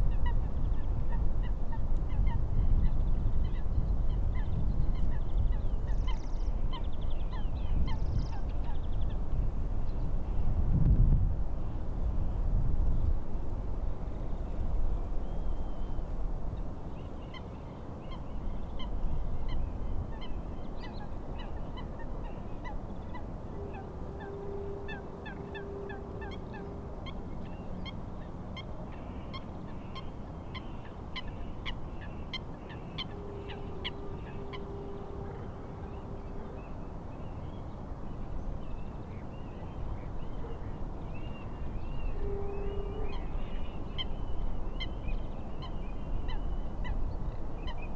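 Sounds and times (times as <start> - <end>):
wind: 0.0 - 47.9.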